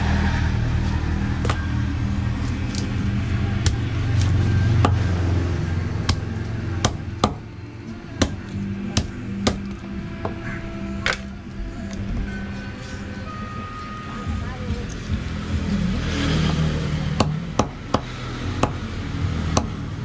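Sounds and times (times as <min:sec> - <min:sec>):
passing vehicle rumble: 0:00.0 - 0:20.0.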